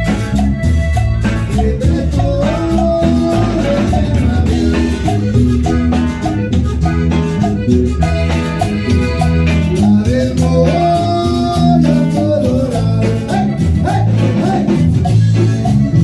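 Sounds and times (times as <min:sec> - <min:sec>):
bouncing bass line: 0:00.0 - 0:16.0
live band playing: 0:00.0 - 0:16.0.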